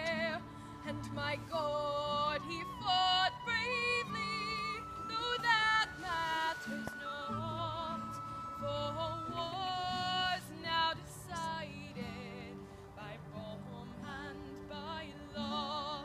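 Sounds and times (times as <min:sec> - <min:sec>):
low held accompanying notes: 0:00.0 - 0:16.0
woman singing slow song: 0:00.0 - 0:16.0.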